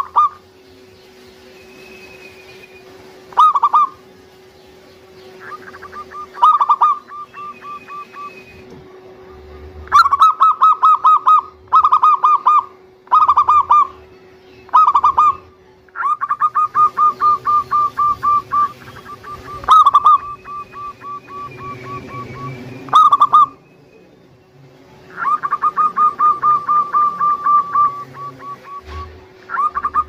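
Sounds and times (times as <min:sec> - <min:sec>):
dove singing rapid notes: 0:00.0 - 0:30.0.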